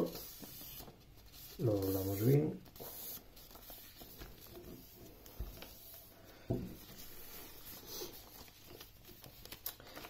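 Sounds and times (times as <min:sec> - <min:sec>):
paper rustling and creasing: 0:00.0 - 0:06.2, 0:06.8 - 0:10.0.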